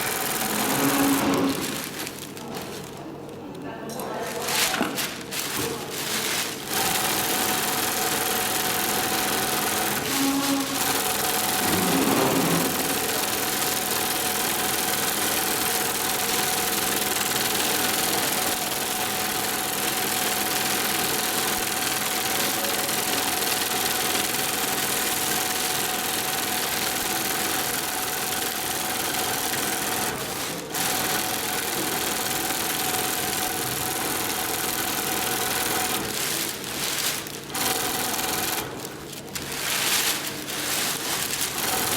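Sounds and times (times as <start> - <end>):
sewing machine running: 0.0 - 3.0, 4.5 - 41.9.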